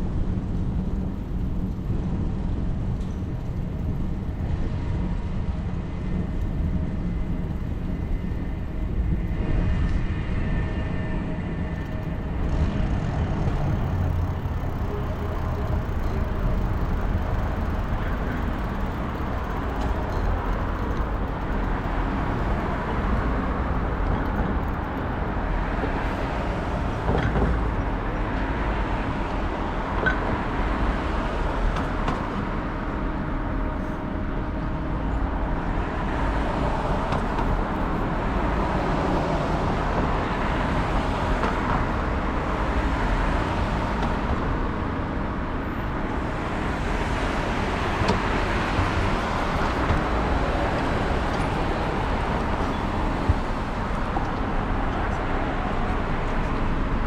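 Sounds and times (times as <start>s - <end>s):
city traffic noise: 0.0s - 57.0s
wind rumble on microphone: 0.0s - 57.0s.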